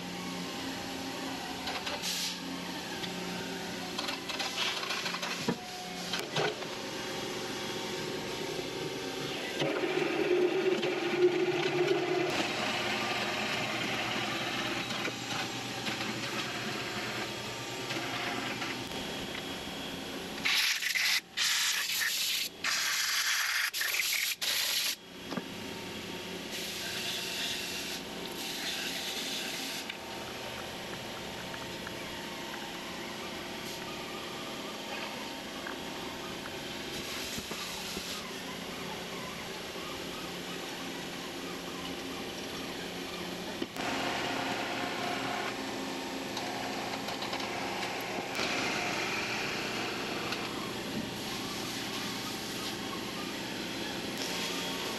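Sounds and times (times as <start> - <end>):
machine hum: 0.0 - 20.5, 24.9 - 54.9.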